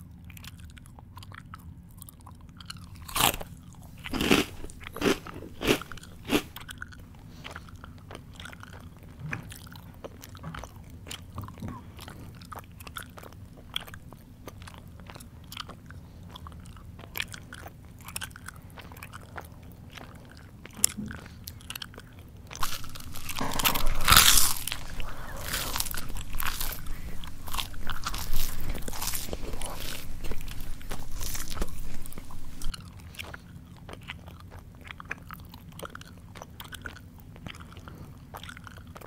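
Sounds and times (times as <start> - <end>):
chewing crunchy food: 0.0 - 39.0.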